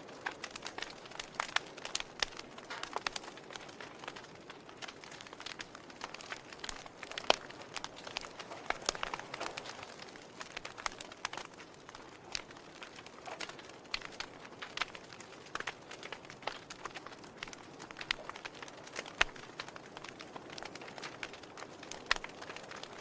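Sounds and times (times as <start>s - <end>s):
fire crackling with sharp pops: 0.0s - 23.0s
soft steady hiss: 0.0s - 23.0s.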